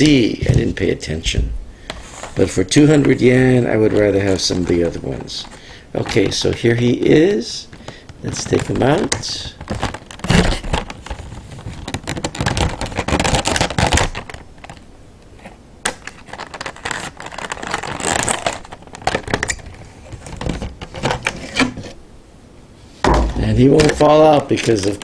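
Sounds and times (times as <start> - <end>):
plastic packaging crinkling: 2.0 - 14.9, 15.9 - 22.0, 23.4 - 25.0.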